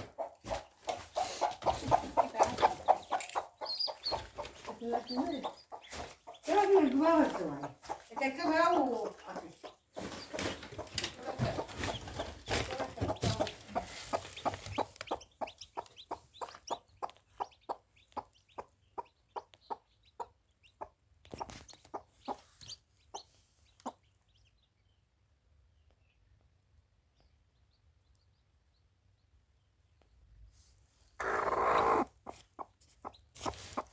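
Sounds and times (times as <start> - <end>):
chickens clucking: 0.0 - 24.6, 31.2 - 33.9.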